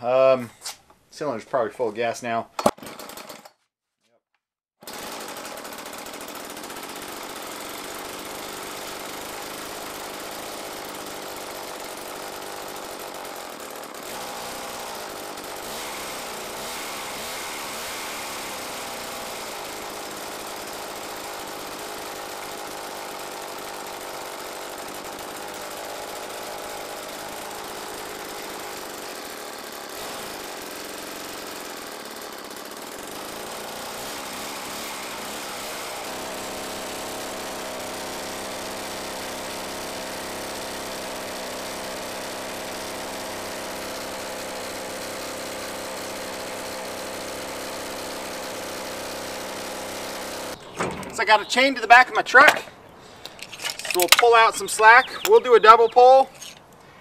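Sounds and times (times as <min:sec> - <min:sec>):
chainsaw engine running: 0:02.7 - 0:03.5, 0:04.8 - 0:52.6.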